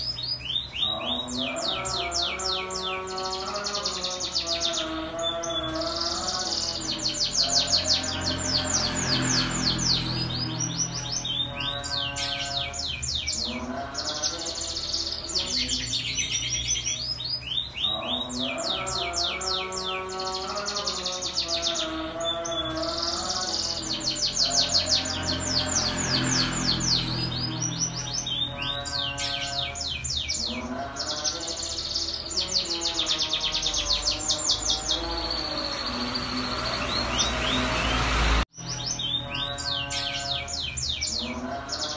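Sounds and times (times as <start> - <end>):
canary singing: 0.0 - 41.9.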